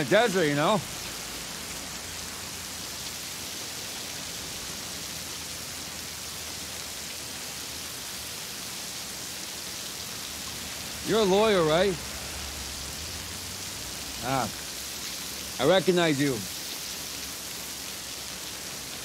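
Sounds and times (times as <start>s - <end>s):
heavy rain falling: 0.0s - 19.0s
water sheeting onto pavement: 0.0s - 19.0s.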